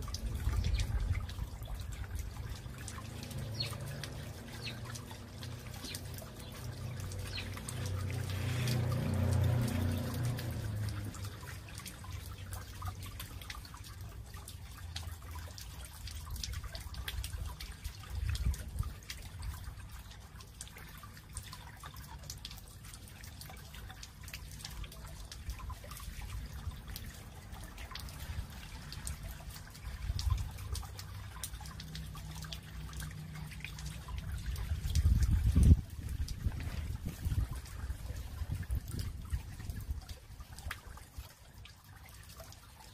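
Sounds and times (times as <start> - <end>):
small water splashes: 0.0 - 42.9
water trickling over stones: 0.0 - 42.9.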